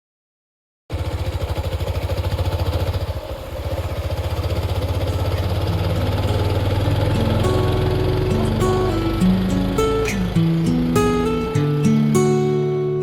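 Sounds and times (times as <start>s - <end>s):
motorcycle engine running: 0.9s - 12.9s.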